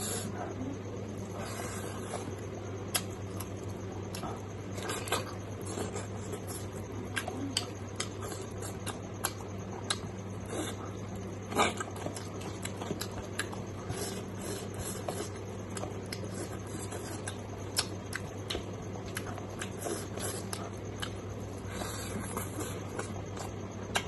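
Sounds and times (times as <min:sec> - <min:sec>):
steady low hum: 0:00.0 - 0:24.0
wet chewing and lip smacks: 0:02.8 - 0:24.0.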